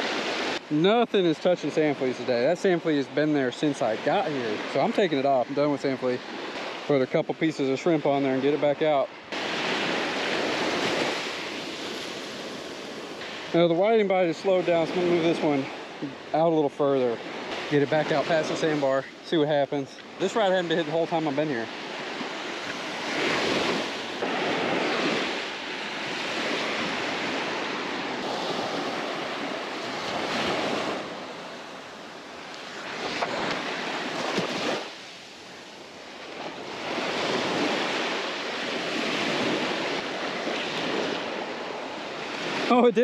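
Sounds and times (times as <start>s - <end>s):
surf waves breaking on sand: 0.0s - 43.0s.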